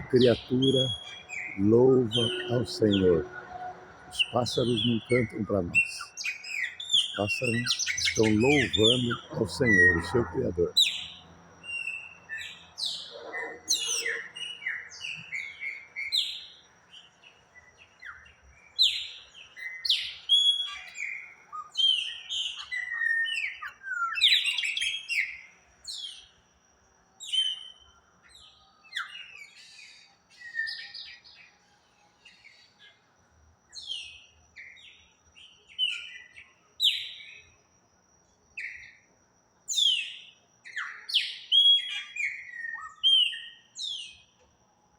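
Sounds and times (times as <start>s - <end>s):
birds chirping and singing: 0.0s - 26.3s, 27.2s - 31.6s, 33.7s - 37.5s, 39.7s - 44.3s.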